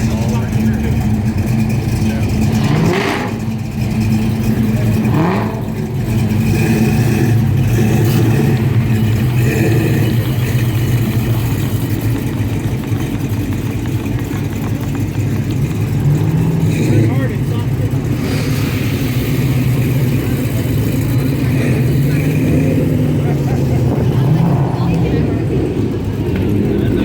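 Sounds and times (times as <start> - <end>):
car engine running: 0.0 - 27.0
engine revving: 0.0 - 27.0.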